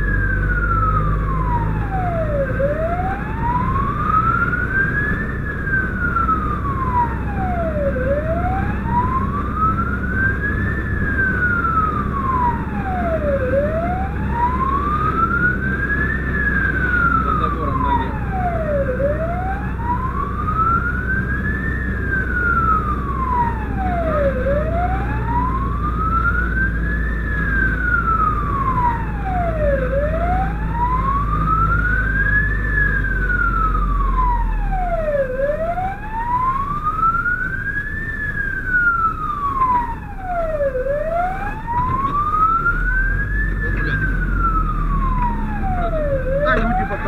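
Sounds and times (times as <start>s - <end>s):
truck engine drone: 0.0s - 47.0s
wail siren: 0.0s - 47.0s.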